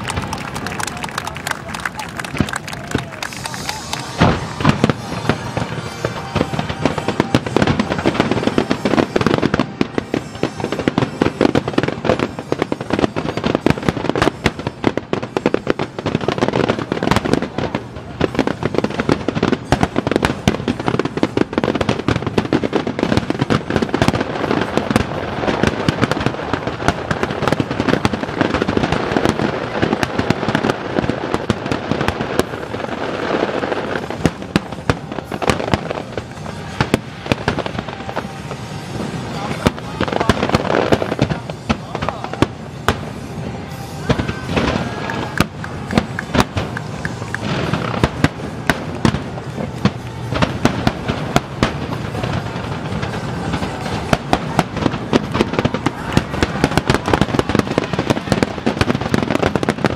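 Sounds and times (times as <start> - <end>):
fireworks bursts and crackling: 0.0 - 59.9.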